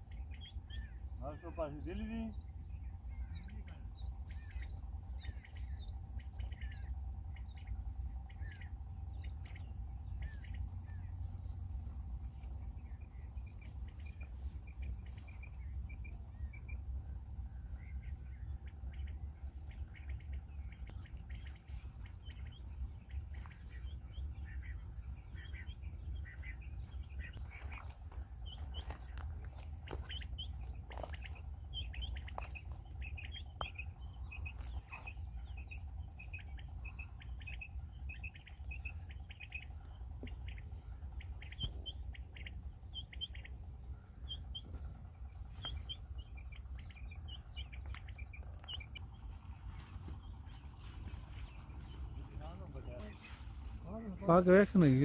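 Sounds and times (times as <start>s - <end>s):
low steady rumble: 0.0s - 55.0s
small birds chirping: 0.0s - 55.0s.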